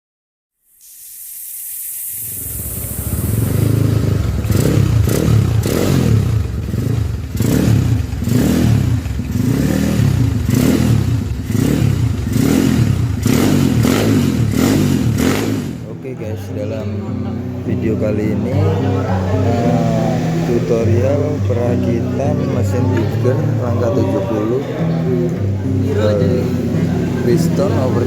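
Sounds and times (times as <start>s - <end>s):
motorcycle engine revving: 1.2s - 28.0s.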